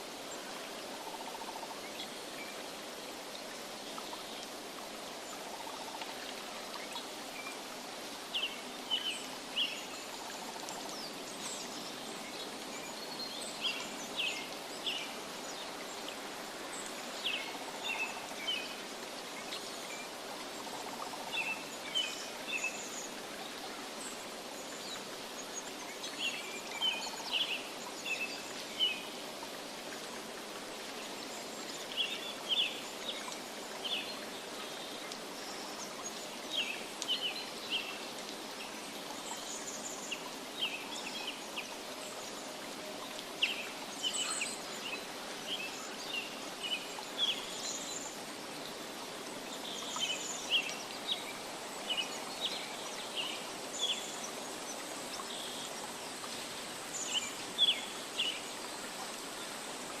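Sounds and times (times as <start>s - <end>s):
running water: 0.0s - 60.0s.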